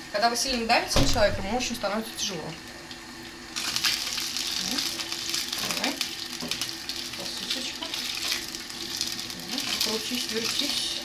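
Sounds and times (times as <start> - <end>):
sausages sizzling in a frying pan: 1.7 - 11.0.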